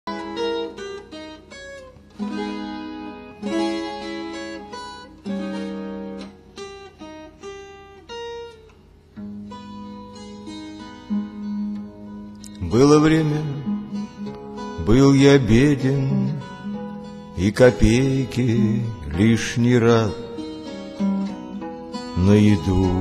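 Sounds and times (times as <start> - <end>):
acoustic guitar playing: 0.1 - 23.0.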